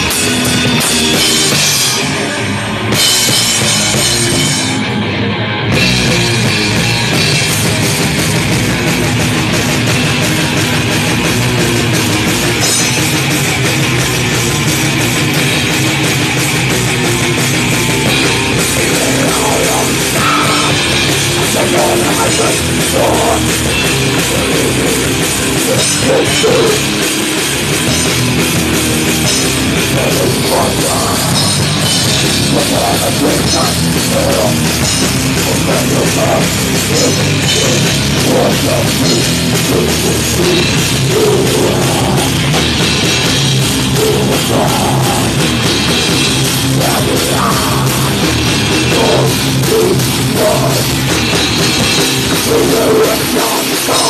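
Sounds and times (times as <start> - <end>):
distorted electric guitars: 0.0 - 54.0
fast drum kit: 0.0 - 54.0.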